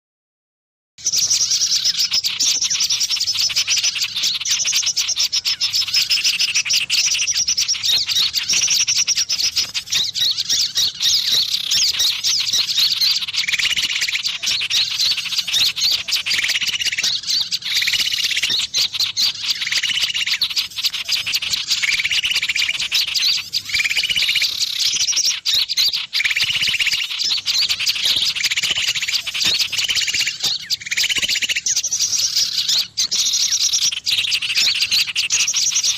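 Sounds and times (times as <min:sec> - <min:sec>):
small birds chirping and twittering: 0:01.0 - 0:35.9.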